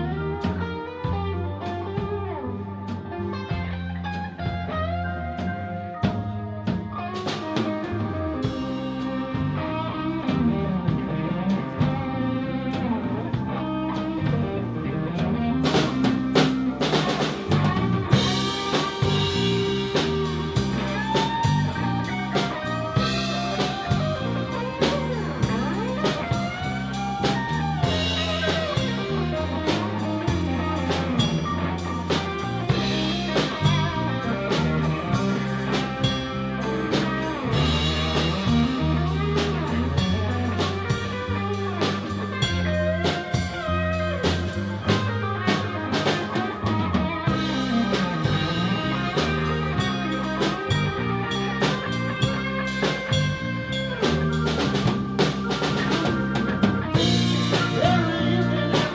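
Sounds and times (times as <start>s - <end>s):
blues lead guitar: 0.0s - 58.9s
drum kit: 0.0s - 58.9s
walking bass line: 0.0s - 58.9s.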